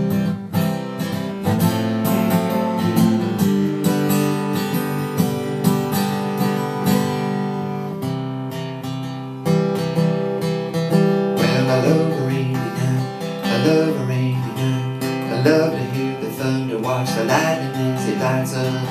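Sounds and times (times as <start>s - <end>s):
acoustic guitar fingerpicking: 0.0s - 18.9s.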